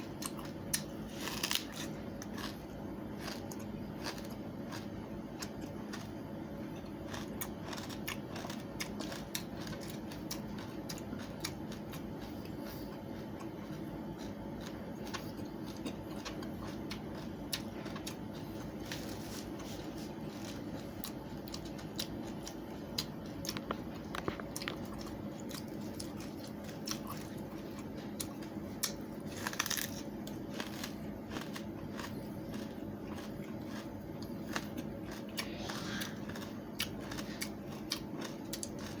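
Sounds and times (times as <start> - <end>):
steady low hum: 0.0 - 39.0
watermelon rind crunching: 0.0 - 39.0.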